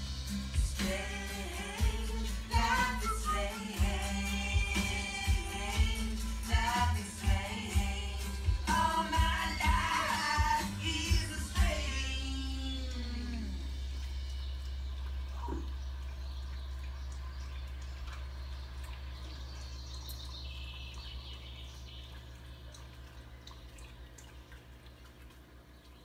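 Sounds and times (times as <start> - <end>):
aquarium water dripping and bubbling: 0.0 - 26.0
pump low hum: 0.0 - 26.0.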